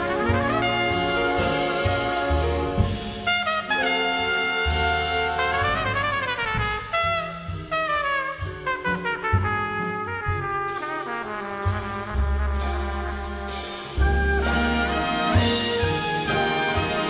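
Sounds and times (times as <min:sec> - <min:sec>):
jazz orchestra playing: 0:00.0 - 0:17.0
low bass notes: 0:00.0 - 0:17.0
trumpets and trombones: 0:00.0 - 0:17.0.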